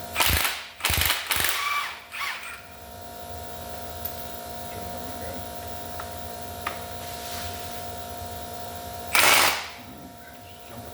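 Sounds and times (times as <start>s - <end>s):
steady electric hum: 0.0s - 10.9s.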